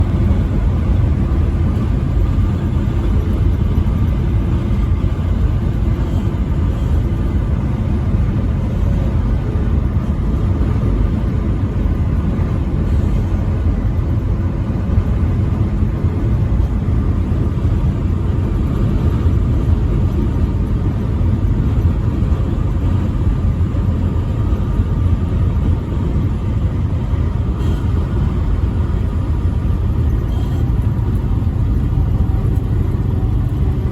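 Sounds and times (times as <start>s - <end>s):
truck engine and road noise: 0.0s - 33.9s.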